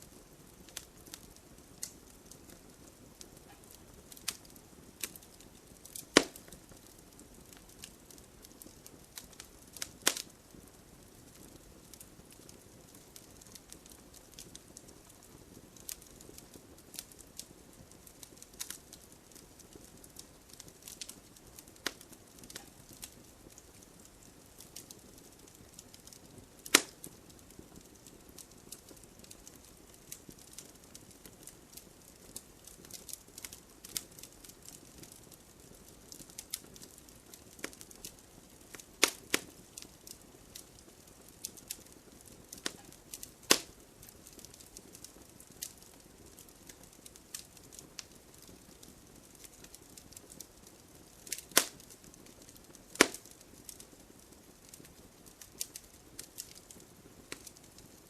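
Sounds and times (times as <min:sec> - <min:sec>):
logs crackling and popping: 0:00.0 - 0:58.0
low hiss of flame: 0:00.0 - 0:58.0.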